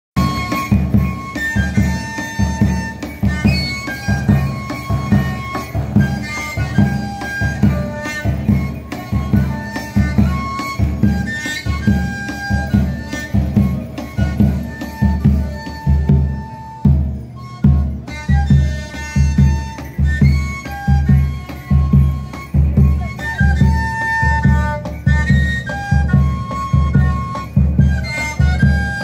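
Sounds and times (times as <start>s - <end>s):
wind instrument melody: 0.2s - 29.0s.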